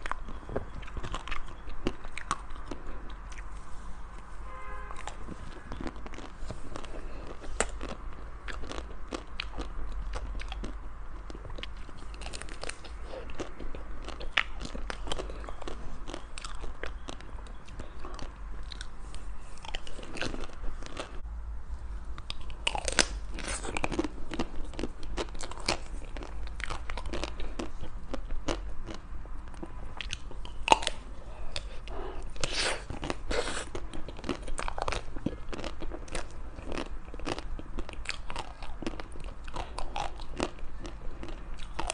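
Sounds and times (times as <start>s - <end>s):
crunchy bites and chewing: 0.0s - 3.6s, 4.8s - 21.2s, 22.2s - 41.9s.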